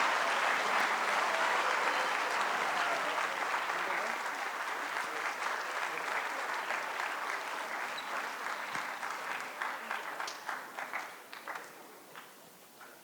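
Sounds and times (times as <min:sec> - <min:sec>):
audience applause: 0:00.0 - 0:11.8.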